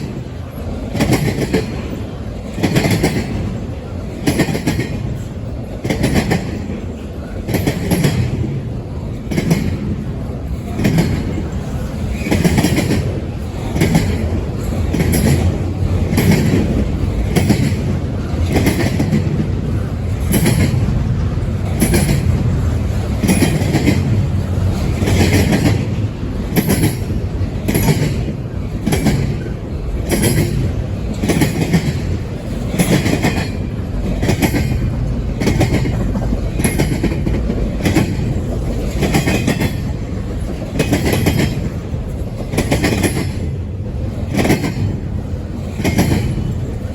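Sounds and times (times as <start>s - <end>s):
train rumbling: 0.0s - 46.9s
wheels clacking over rail joints: 0.0s - 46.9s.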